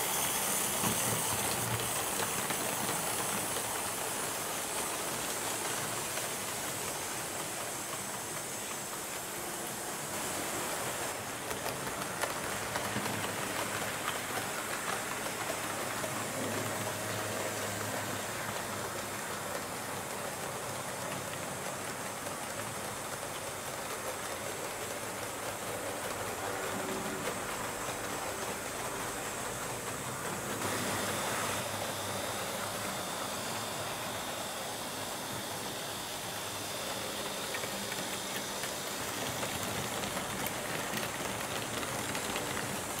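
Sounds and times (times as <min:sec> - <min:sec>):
model train motor noise: 0:00.0 - 0:43.0
model train wheels rumbling: 0:00.0 - 0:43.0
track clatter: 0:00.0 - 0:43.0.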